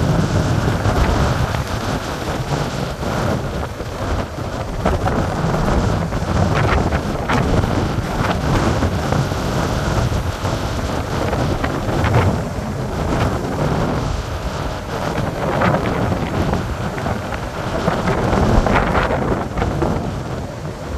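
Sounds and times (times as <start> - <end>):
surf breaking on beach: 0.0 - 20.9
wind buffeting microphone: 0.0 - 20.9.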